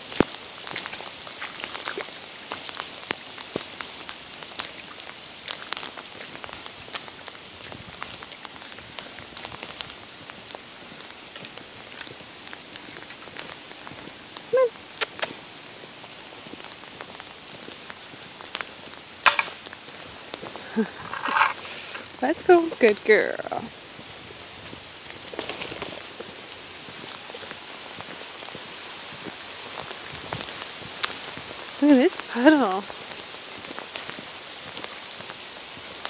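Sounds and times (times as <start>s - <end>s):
rain on wet pavement: 0.0s - 36.0s.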